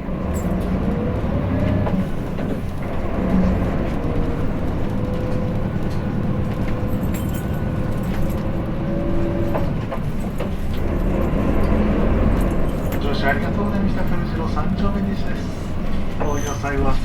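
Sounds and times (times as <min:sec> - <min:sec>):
bus engine and road rumble: 0:00.0 - 0:17.0
bodywork rattles and clicks: 0:00.3 - 0:16.4.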